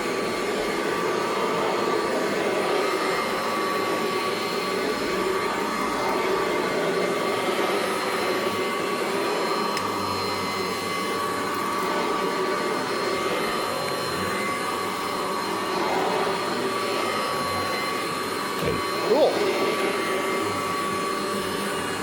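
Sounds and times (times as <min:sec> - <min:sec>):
upright vacuum cleaner running: 0:00.0 - 0:22.0.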